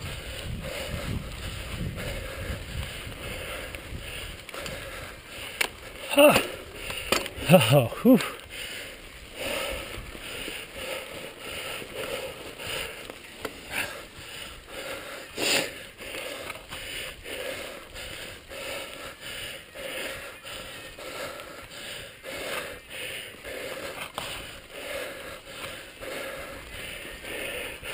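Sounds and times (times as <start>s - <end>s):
bike rattling: 0.0s - 27.9s
bike tyres crunching on dirt: 0.0s - 27.9s
heavy breathing: 0.0s - 27.9s.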